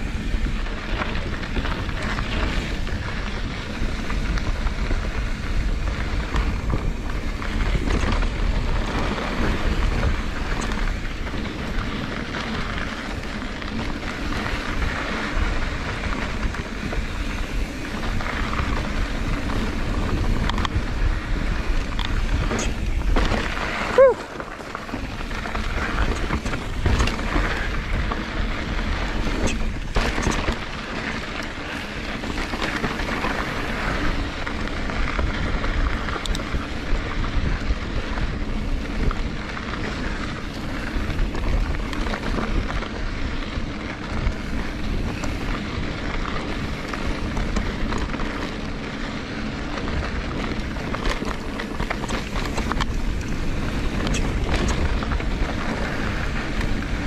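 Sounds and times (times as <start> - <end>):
bike tyres crunching on gravel: 0.0 - 57.0
wind buffeting microphone: 0.0 - 57.0
small clicks and rattles: 0.7 - 57.0.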